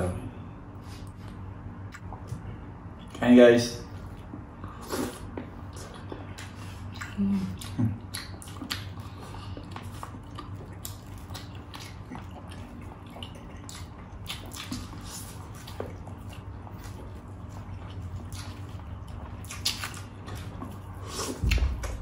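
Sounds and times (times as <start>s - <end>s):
low hum: 0.0s - 22.0s
wet chewing and lip smacks: 1.0s - 2.4s, 5.0s - 22.0s.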